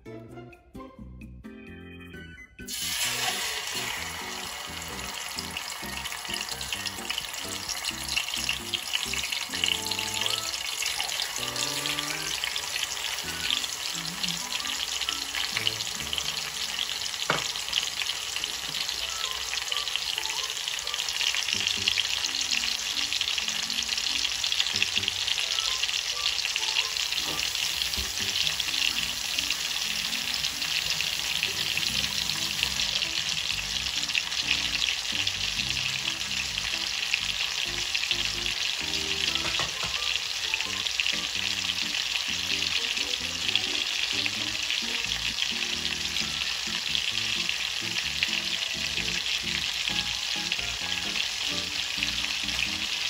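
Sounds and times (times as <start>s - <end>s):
chicken frying in hot oil: 2.7s - 53.0s.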